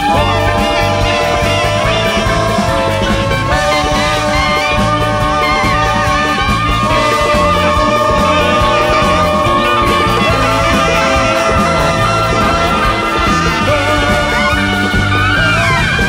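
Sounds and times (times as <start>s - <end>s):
bass: 0.0s - 16.0s
held melodic notes: 0.0s - 16.0s
repeating drum pattern: 0.0s - 16.0s.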